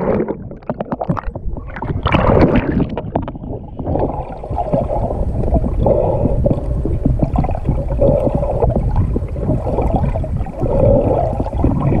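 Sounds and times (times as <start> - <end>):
muffled underwater rushing: 0.0 - 12.0
underwater gurgling and bubbling: 0.0 - 12.0.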